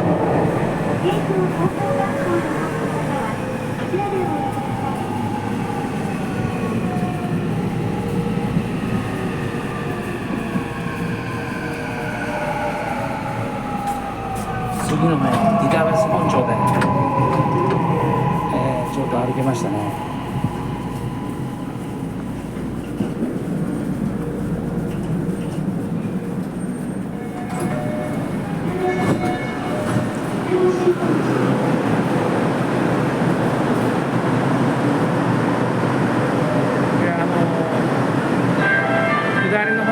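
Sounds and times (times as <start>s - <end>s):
subway wheels rumbling on track: 0.0s - 39.9s.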